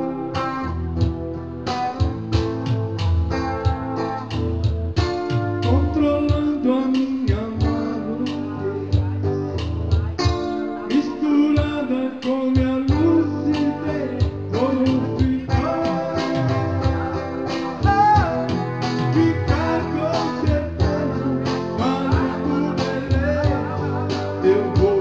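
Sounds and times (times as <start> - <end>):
guitar playing: 0.0 - 25.0
steady drum beat: 1.0 - 25.0.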